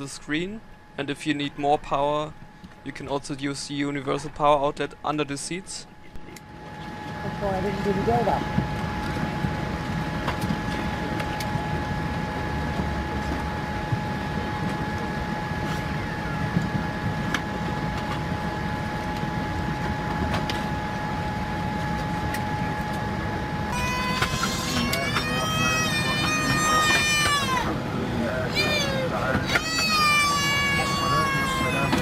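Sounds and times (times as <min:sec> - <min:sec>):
two-tone whine: 0:05.8 - 0:32.0
airliner cabin rumble: 0:06.0 - 0:32.0.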